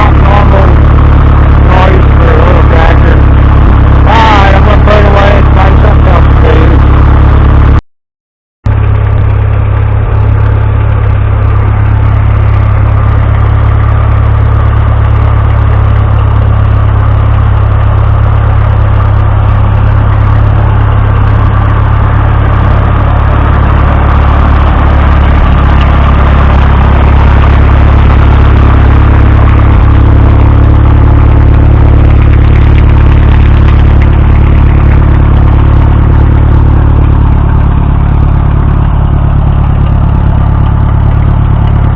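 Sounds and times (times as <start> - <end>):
tractor engine running: 0.0 - 7.8, 8.6 - 41.9.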